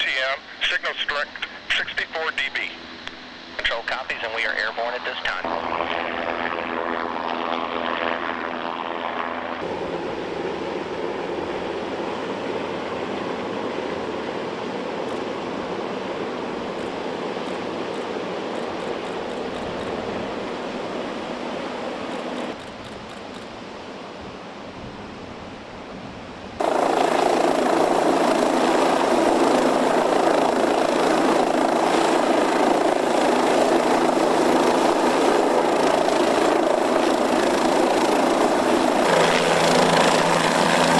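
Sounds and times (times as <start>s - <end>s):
helicopter turbine and rotor noise: 0.0s - 40.9s.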